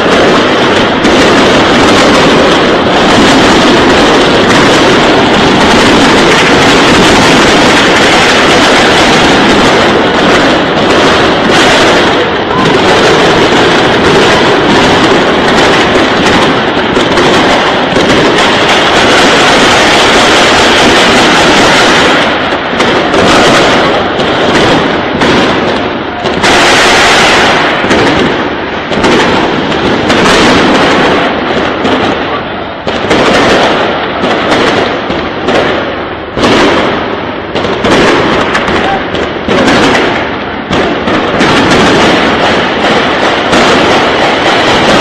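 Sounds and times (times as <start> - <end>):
heavy gunfire: 0.0 - 45.0.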